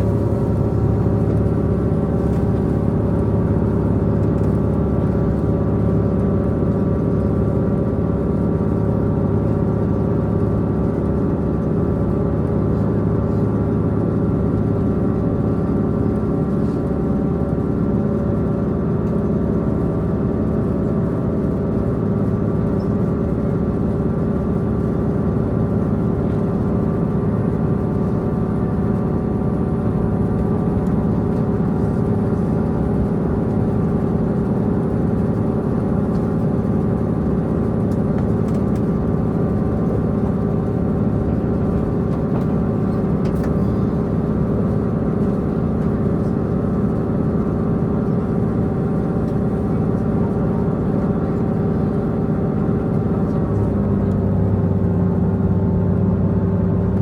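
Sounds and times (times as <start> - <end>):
train diesel engine running: 0.0 - 57.0
wheels rumbling on rail: 0.0 - 57.0.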